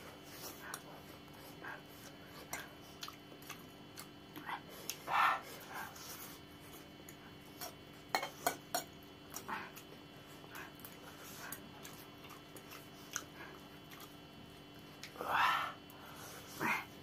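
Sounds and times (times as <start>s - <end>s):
chewing: 0.2s - 15.2s.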